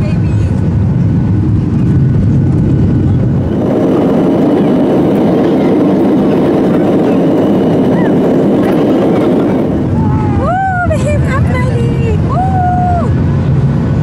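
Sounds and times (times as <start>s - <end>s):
jet engines roaring: 0.0s - 14.0s
rushing air: 0.0s - 14.0s.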